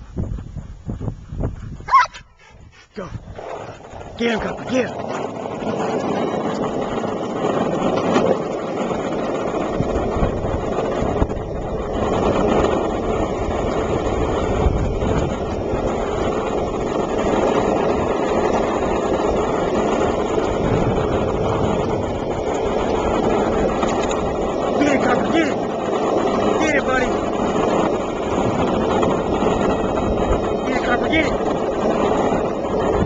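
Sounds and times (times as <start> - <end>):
skateboard wheels rolling on pavement: 0.0 - 33.0
wind buffeting microphone: 0.0 - 33.0.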